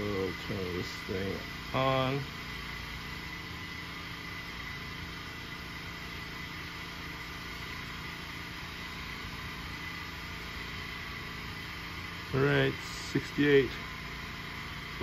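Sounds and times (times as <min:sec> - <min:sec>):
generator engine droning: 0:00.0 - 0:15.0.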